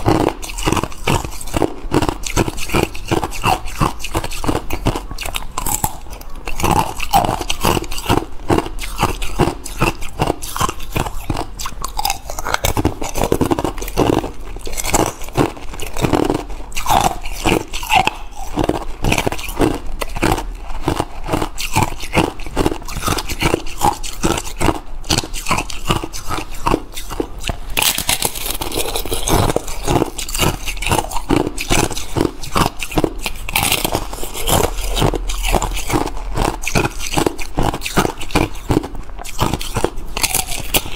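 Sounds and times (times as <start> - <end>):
ice crunched between teeth: 0.0 - 40.9.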